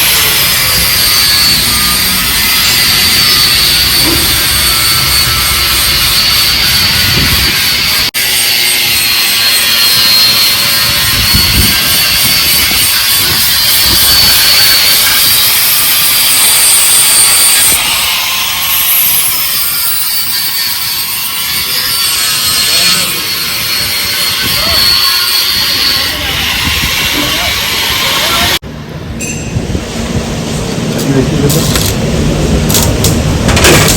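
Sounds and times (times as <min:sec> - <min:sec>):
high-pitched turbo whine: 0:00.0 - 0:33.1.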